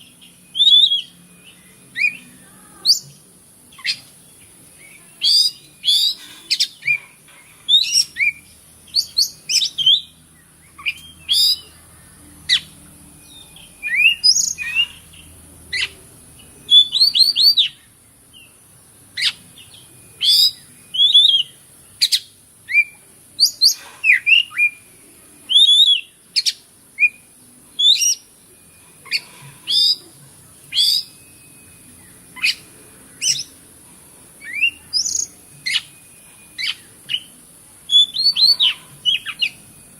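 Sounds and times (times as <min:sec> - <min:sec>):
bird singing whistled phrases: 0:00.0 - 0:04.1, 0:04.8 - 0:07.0, 0:07.7 - 0:11.8, 0:12.5 - 0:15.1, 0:16.6 - 0:18.5, 0:19.2 - 0:28.3, 0:29.0 - 0:30.1, 0:30.7 - 0:33.6, 0:34.4 - 0:39.6.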